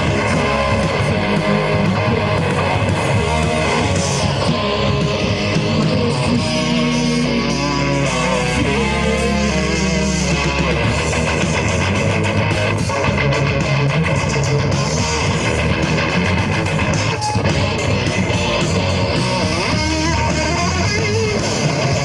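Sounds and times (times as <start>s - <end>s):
electric guitar sustained chords: 0.0s - 22.0s
rock band playing live: 0.0s - 22.0s.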